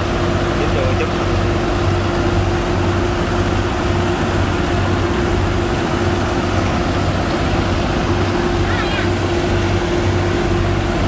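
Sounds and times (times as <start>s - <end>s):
pump engine throbbing: 0.0s - 11.0s.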